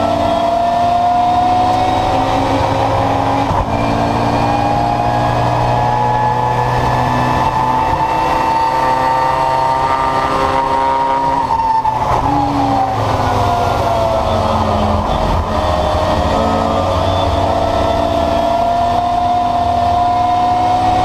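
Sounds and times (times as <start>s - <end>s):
race car engine at full throttle: 0.0s - 21.0s.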